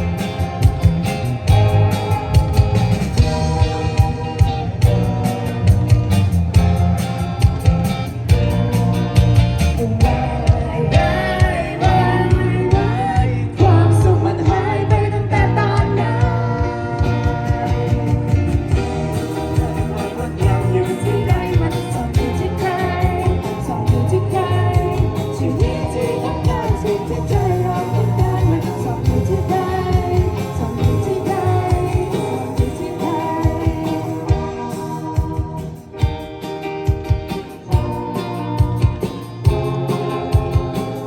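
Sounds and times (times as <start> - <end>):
person singing: 0.0 - 36.4, 37.4 - 41.0
pop-rock band playing: 0.0 - 41.0
steady drum beat: 0.0 - 41.0.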